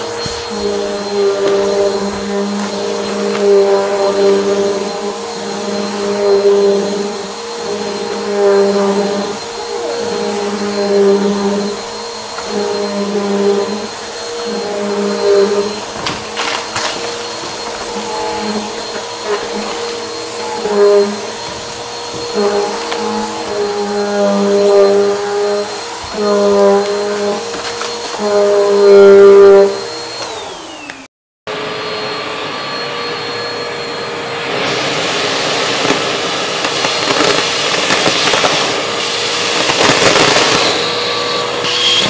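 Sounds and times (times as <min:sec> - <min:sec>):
upright vacuum cleaner running: 0:00.0 - 0:42.0.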